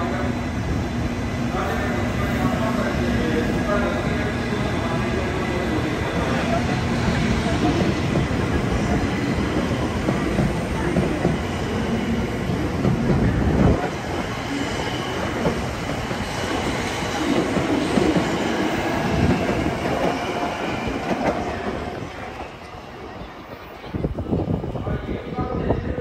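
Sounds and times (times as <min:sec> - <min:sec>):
train wheels on rail: 0:00.0 - 0:26.0.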